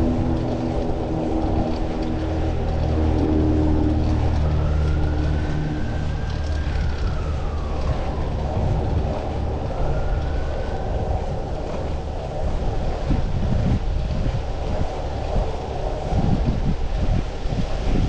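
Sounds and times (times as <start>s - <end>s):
city traffic: 0.0s - 18.0s
distant siren wailing: 0.0s - 18.0s
vehicle engine running: 0.0s - 18.0s
wind on microphone: 0.0s - 18.0s.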